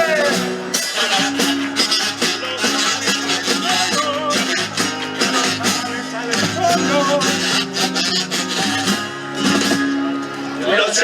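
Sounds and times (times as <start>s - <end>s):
drum beats: 0.0s - 10.1s
strummed guitars: 0.0s - 11.0s.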